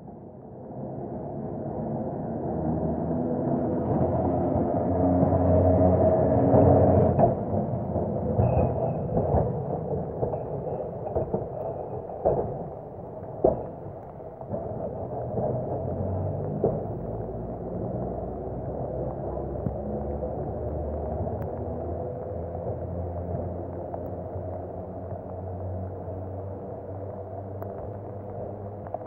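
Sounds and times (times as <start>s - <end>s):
tram running along track: 0.0s - 29.0s
wheels clacking on rails: 5.5s - 29.0s.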